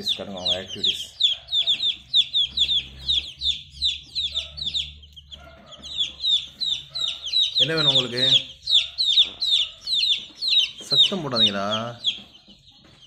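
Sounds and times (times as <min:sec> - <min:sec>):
chicks peeping loudly: 0:00.0 - 0:13.0.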